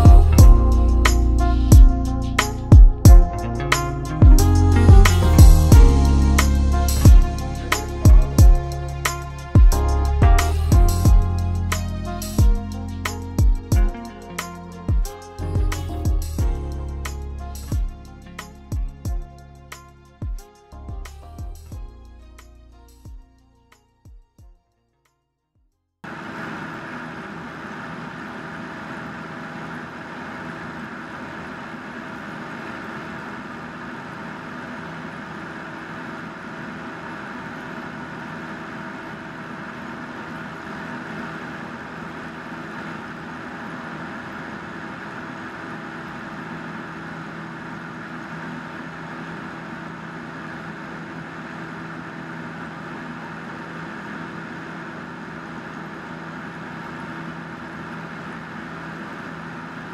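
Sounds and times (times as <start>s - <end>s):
propeller aircraft engine droning: 0.0s - 20.2s, 26.1s - 59.9s.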